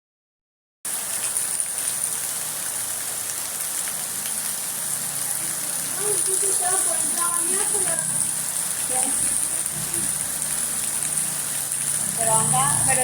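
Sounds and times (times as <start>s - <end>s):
heavy rain pouring: 0.9s - 13.0s.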